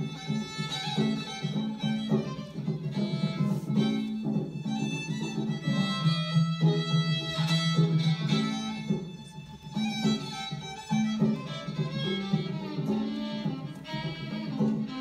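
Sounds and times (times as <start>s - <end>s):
banjo plucked rhythm: 0.0s - 15.0s
fiddle melody: 0.0s - 15.0s.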